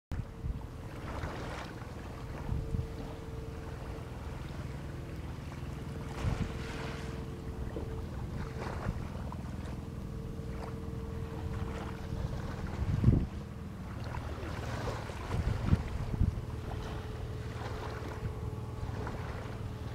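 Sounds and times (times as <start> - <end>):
wind buffeting microphone: 0.1 - 3.9, 6.0 - 19.9
boat motor humming: 0.1 - 19.9
steady mid-pitched tone: 0.1 - 19.9.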